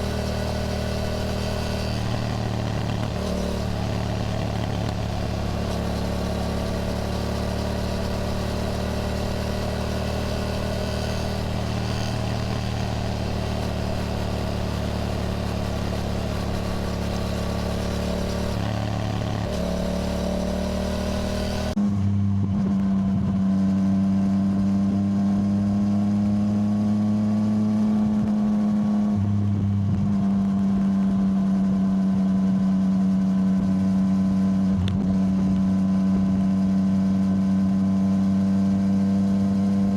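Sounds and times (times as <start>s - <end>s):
motorcycle engine running: 0.0s - 26.4s, 29.4s - 39.9s.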